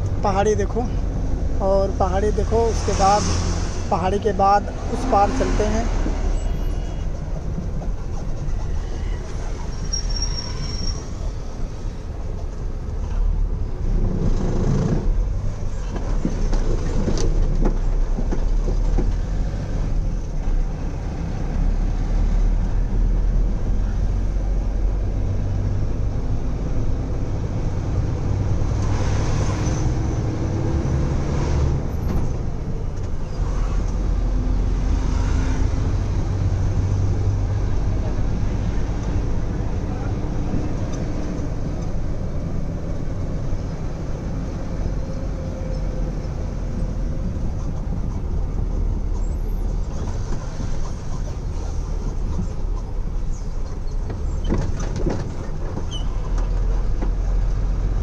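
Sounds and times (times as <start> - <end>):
diesel engine drone: 0.0 - 58.0
road noise: 0.0 - 58.0.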